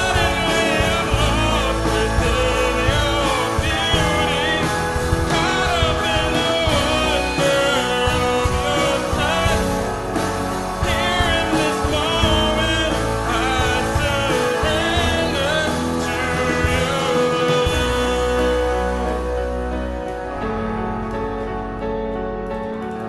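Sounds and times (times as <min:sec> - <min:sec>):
voices singing: 0:00.0 - 0:20.0
guitar: 0:00.0 - 0:23.0
sustained instrument chords: 0:00.0 - 0:23.0
worship band playing: 0:00.0 - 0:23.0.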